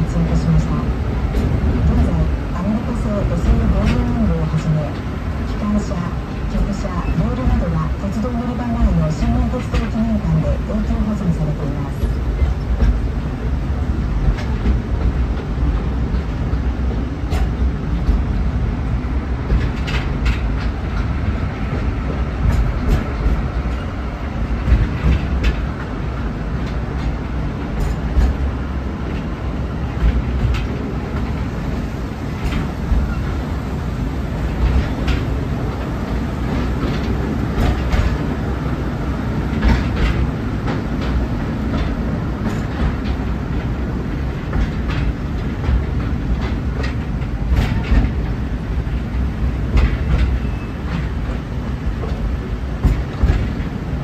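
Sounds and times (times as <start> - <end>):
train low rumble: 0.0 - 54.0
wheels clacking on track: 0.0 - 54.0.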